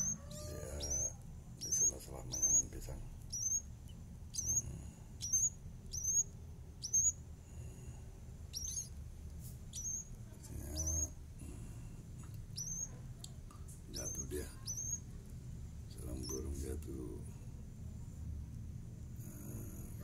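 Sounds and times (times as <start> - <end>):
nestling birds cheeping: 0.0 - 16.8.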